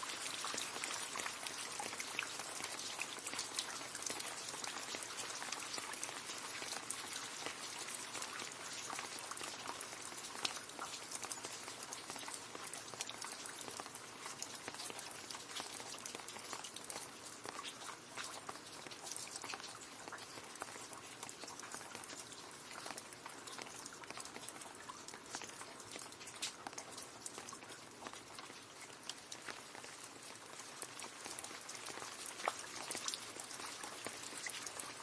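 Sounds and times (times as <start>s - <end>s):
rain splashing into a puddle: 0.0s - 35.0s.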